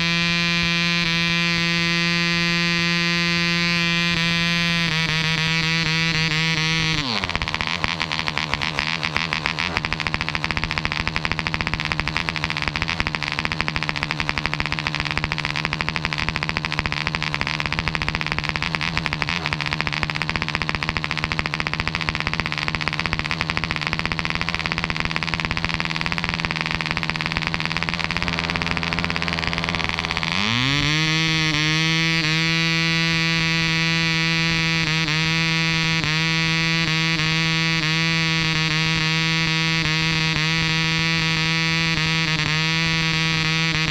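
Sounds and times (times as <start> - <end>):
model airplane engine idling: 0.0 - 43.9.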